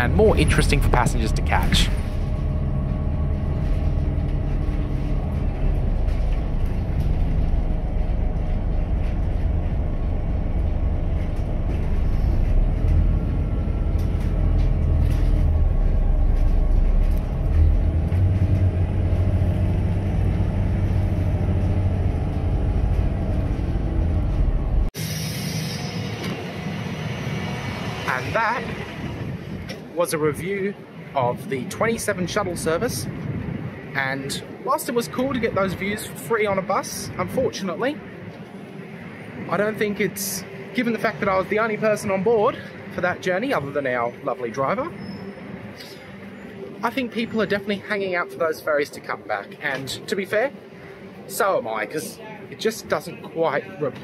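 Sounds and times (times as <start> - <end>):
bus diesel engine rumble: 0.0 - 54.0.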